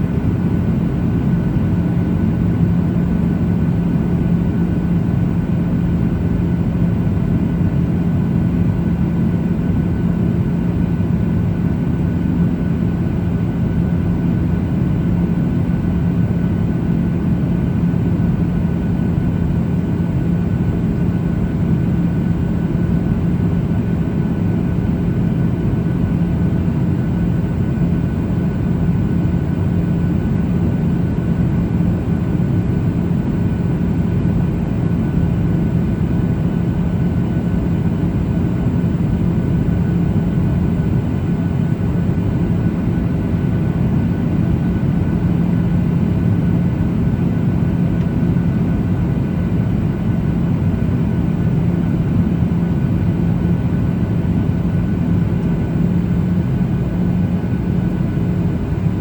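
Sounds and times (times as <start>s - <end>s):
jet engines droning: 0.0s - 59.0s
steady low hum: 0.0s - 59.0s.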